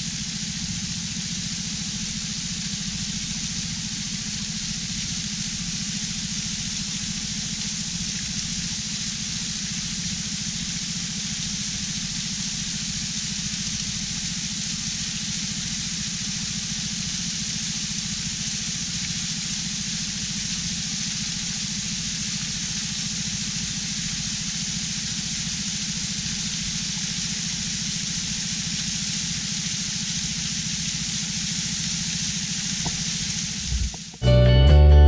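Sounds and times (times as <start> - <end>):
outboard motor running: 0.0 - 34.2.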